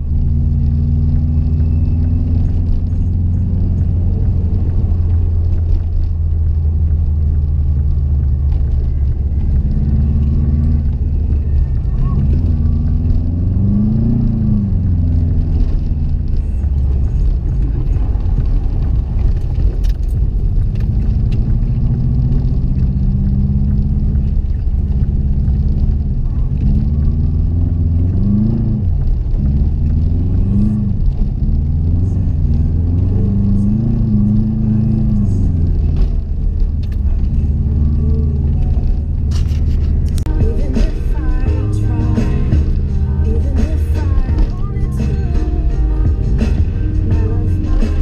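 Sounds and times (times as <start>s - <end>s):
car engine revving while driving: 0.0s - 48.0s
steady low rumble: 0.0s - 48.0s.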